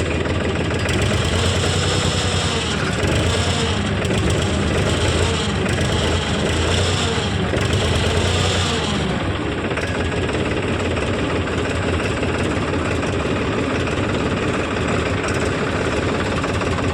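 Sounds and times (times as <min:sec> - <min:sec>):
heavy diesel engine running: 0:00.0 - 0:16.9.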